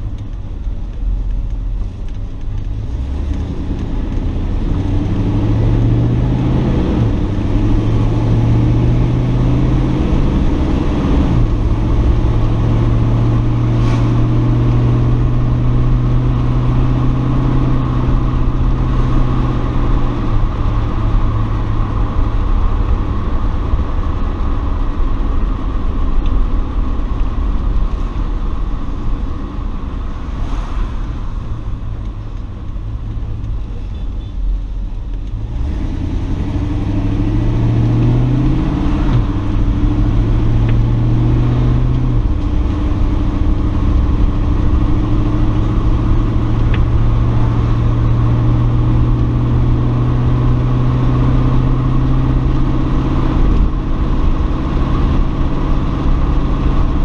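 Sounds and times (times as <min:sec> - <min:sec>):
car engine while driving: 0:00.0 - 0:57.0.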